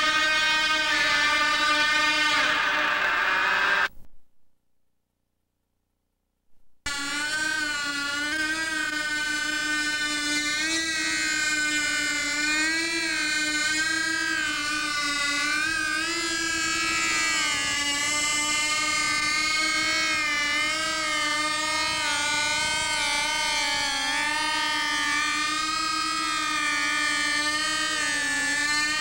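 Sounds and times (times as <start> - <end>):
aircraft engine buzzing: 0.0 - 3.9, 6.9 - 29.0.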